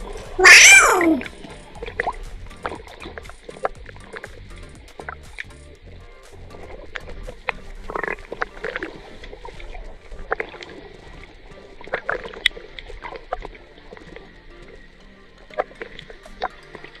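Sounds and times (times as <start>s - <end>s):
water sloshing and splashing: 1.1s - 17.0s.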